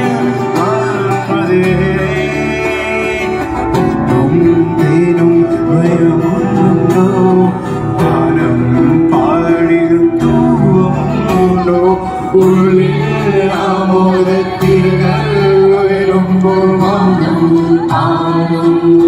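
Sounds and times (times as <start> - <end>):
acoustic guitar: 0.0 - 19.0
group of voices singing: 0.0 - 19.0.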